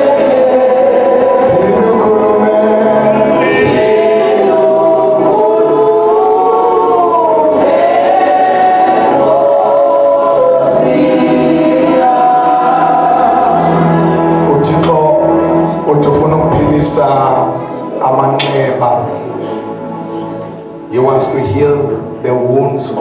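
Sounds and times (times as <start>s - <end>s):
choir singing gospel music: 0.0s - 23.0s.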